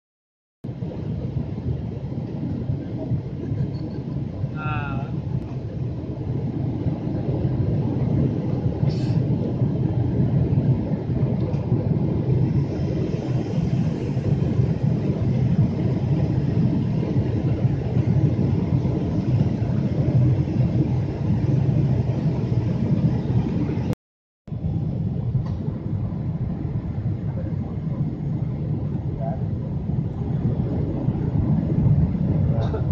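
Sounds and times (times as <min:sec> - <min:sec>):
jet airliner cabin rumble: 0:00.6 - 0:32.9.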